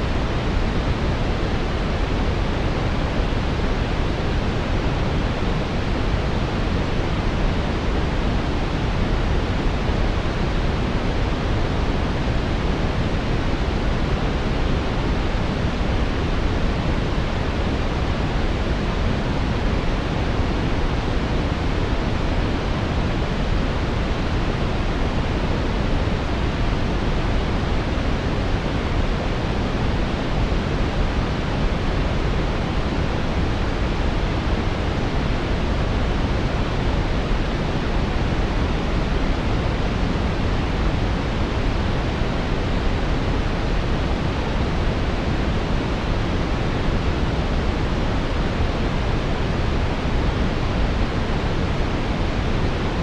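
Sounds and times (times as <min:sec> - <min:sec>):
brown noise: 0:00.0 - 0:53.0.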